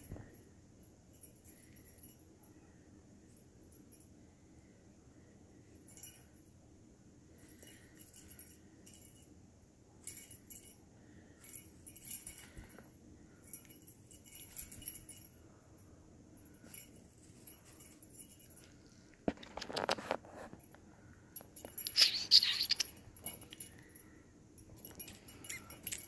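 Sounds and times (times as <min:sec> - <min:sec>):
small bell jingling: 0:00.0 - 0:04.2, 0:05.7 - 0:06.5, 0:07.4 - 0:09.4, 0:10.0 - 0:19.2, 0:20.6 - 0:26.0.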